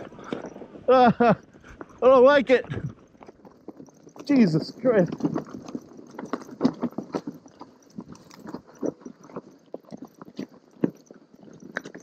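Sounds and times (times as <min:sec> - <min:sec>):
bike rattling over rocks: 0:00.0 - 0:12.0
tyres crunching through snow: 0:00.0 - 0:12.0.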